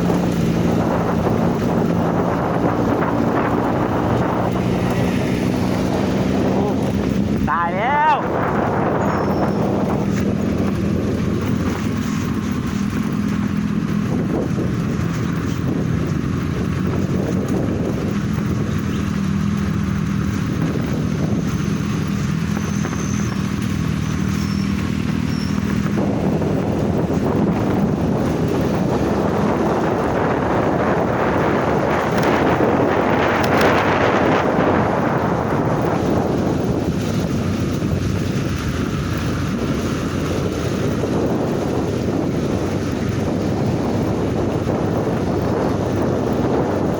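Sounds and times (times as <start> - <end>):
vehicle engine running: 0.0 - 46.9
wind buffeting microphone: 0.0 - 46.9.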